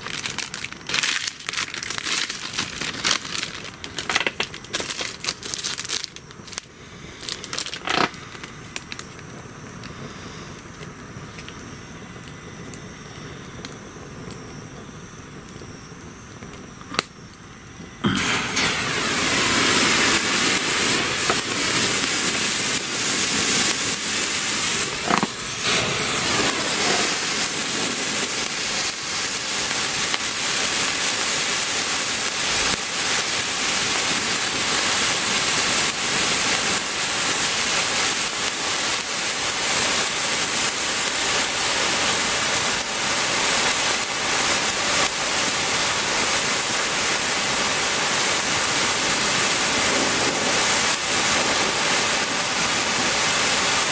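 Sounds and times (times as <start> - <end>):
faint fireworks crackles: 0.0 - 53.9
spray fireworks hissing: 0.0 - 53.9.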